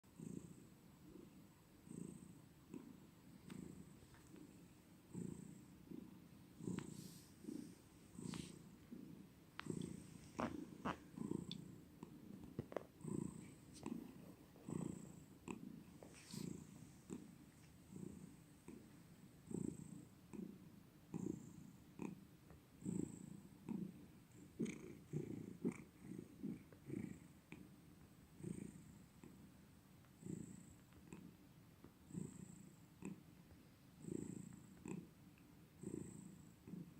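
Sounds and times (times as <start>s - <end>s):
cat purring: 0.1s - 36.9s.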